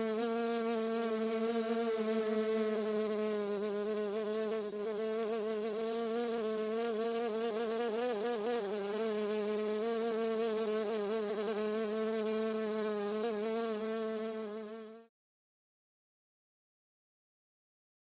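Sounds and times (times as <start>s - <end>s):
bee buzzing in flight: 0.0s - 15.1s.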